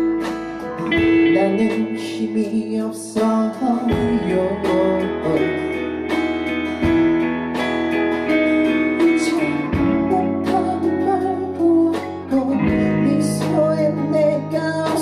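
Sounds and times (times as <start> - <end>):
person singing: 0.0 - 6.3, 8.6 - 15.0
band playing a song: 0.0 - 15.0
guitars strummed and plucked: 0.0 - 15.0.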